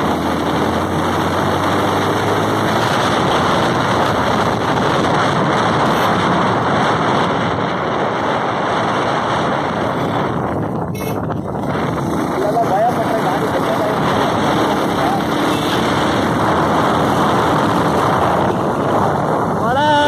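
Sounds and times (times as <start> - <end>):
motorcycle engine running: 0.0 - 20.0
wind rushing on microphone: 0.0 - 20.0.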